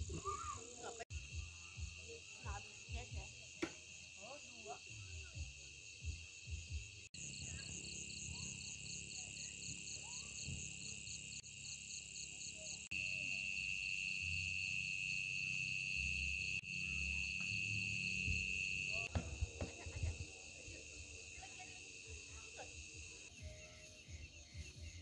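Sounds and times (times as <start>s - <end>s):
crickets and insects trilling: 0.0s - 25.0s.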